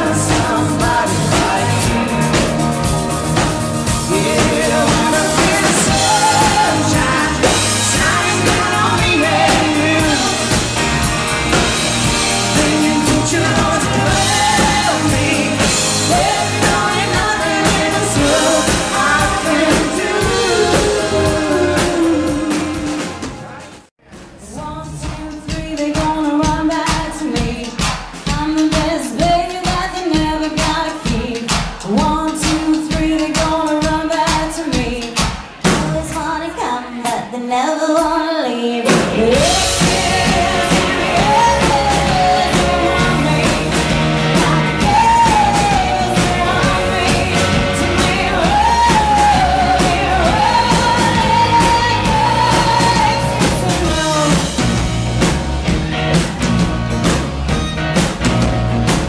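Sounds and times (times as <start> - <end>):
person singing lead vocal: 0.0 - 23.6, 24.4 - 54.6
live rock band playing: 0.0 - 37.4, 38.8 - 59.0.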